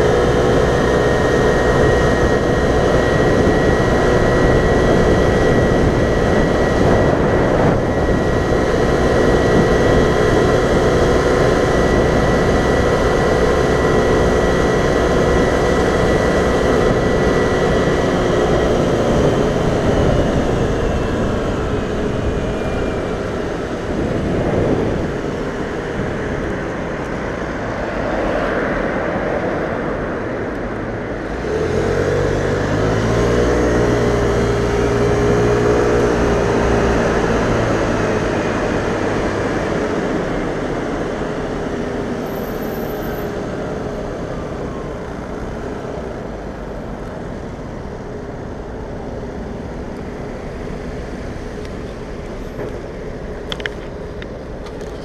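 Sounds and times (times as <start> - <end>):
scooter engine running: 0.0 - 27.4, 31.1 - 55.0
city traffic road noise: 0.0 - 55.0
wind: 0.0 - 55.0.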